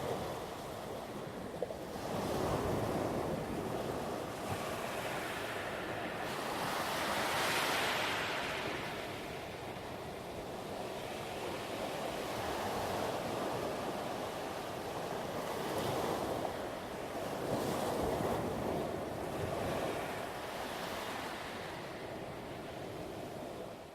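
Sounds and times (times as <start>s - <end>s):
surf on pebble beach: 0.0s - 23.7s.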